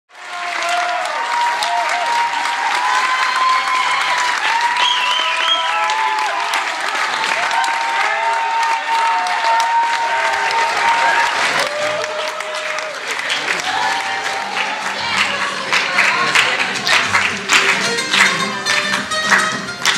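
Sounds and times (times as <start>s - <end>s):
audience applauding: 0.1s - 19.9s.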